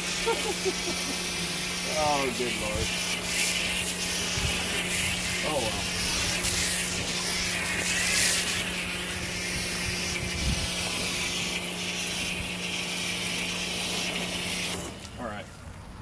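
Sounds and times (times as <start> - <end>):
foam spray hissing: 0.0 - 15.4
pressure washer humming: 0.0 - 16.0.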